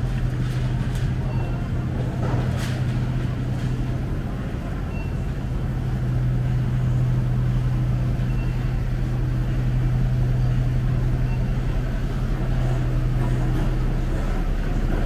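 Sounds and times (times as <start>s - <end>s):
refrigerated display cases humming: 0.0s - 15.0s.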